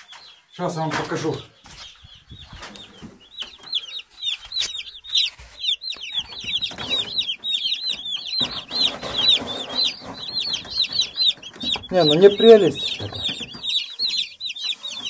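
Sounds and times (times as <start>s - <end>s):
chicks peeping: 0.0s - 15.0s
rustling: 0.9s - 15.0s.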